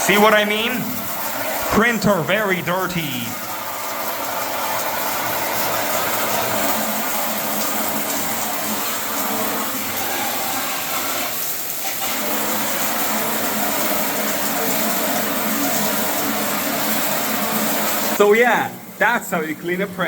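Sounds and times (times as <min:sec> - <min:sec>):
water spraying: 0:00.0 - 0:20.0.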